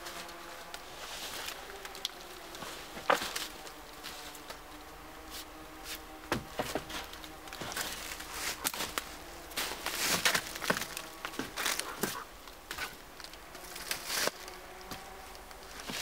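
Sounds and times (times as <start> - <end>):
dry branches knocking and scraping: 0.0 - 16.0
leaf litter crunching underfoot: 0.0 - 16.0.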